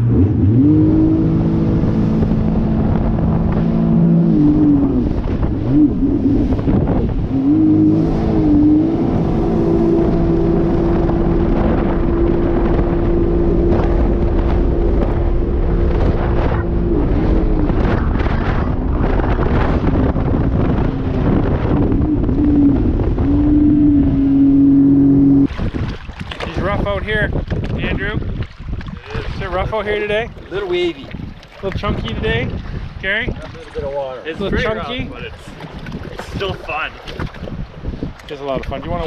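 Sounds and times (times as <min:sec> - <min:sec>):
watercraft engine running: 0:00.0 - 0:39.0
wind on microphone: 0:00.0 - 0:39.0
hull slapping choppy water: 0:00.8 - 0:39.0.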